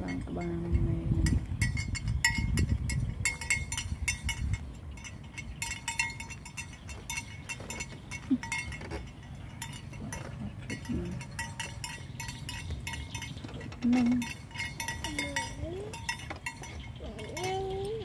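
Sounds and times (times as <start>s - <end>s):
animal bell clinking: 0.0s - 18.0s.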